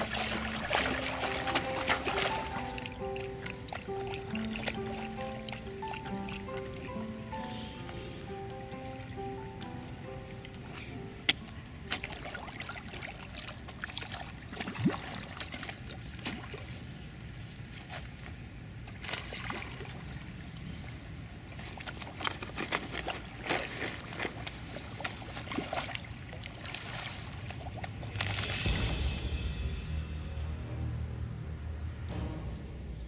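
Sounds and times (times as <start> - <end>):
fish splashing and sucking: 0.0 - 18.2, 19.0 - 29.0.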